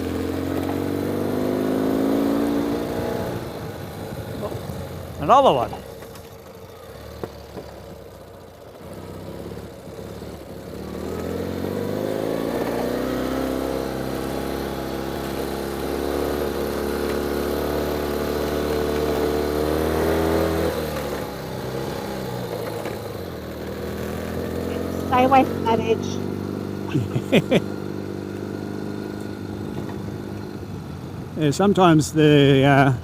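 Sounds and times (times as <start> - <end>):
motorcycle engine pulling under load: 0.0 - 30.6.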